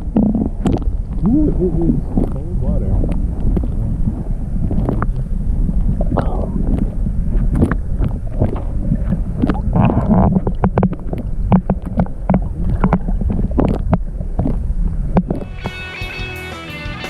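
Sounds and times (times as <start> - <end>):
wind buffeting microphone: 0.0 - 15.6.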